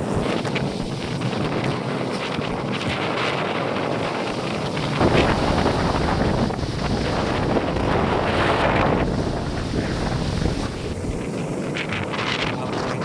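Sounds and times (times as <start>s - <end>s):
breaking waves: 0.0s - 13.0s
strong wind on microphone: 0.0s - 13.0s.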